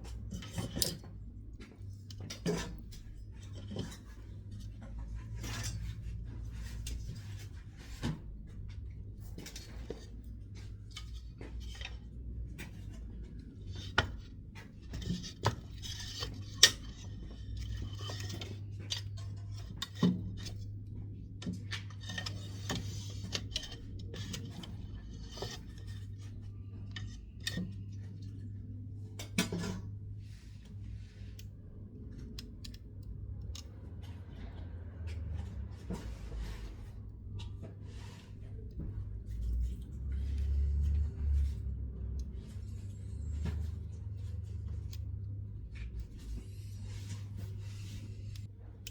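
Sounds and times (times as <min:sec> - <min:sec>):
steady low hum: 0:00.0 - 0:48.9
wood crackling in a stove: 0:00.0 - 0:48.9.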